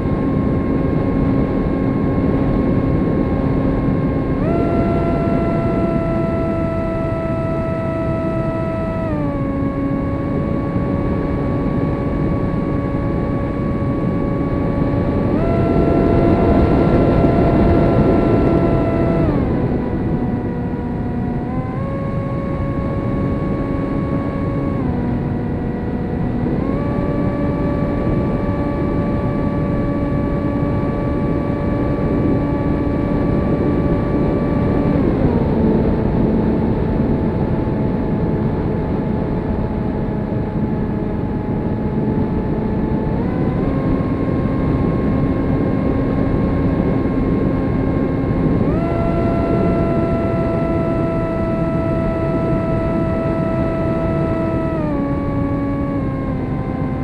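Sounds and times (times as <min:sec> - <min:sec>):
electric motor and propeller whining: 0:00.0 - 0:57.0
wind rush: 0:00.0 - 0:57.0.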